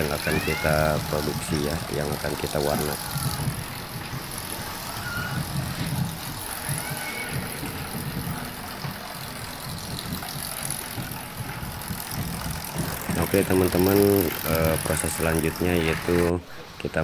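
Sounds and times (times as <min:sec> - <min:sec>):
low rumble of running machinery: 0:00.0 - 0:17.0.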